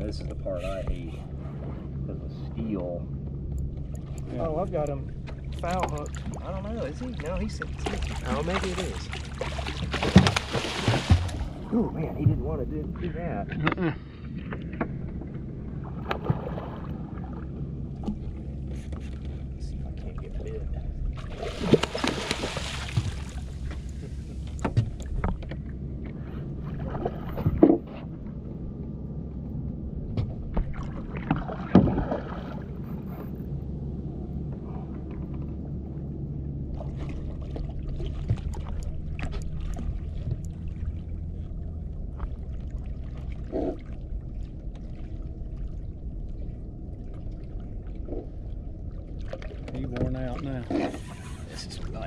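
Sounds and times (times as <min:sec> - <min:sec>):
boat engine idling: 0:00.0 - 0:31.3, 0:32.1 - 0:52.0.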